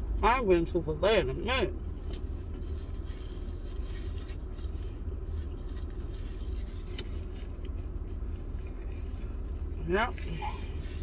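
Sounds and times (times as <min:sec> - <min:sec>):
car idling rumble: 0:00.0 - 0:11.0.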